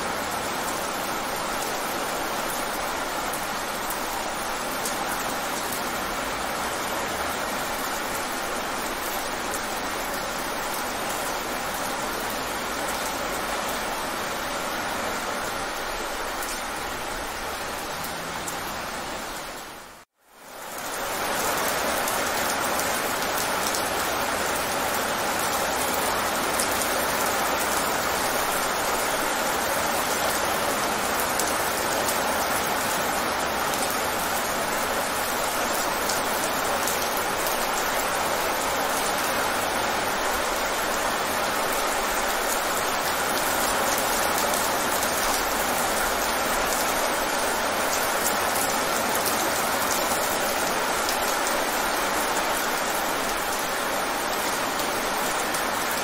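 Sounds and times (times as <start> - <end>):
rain hissing on wet pavement: 0.0 - 56.0.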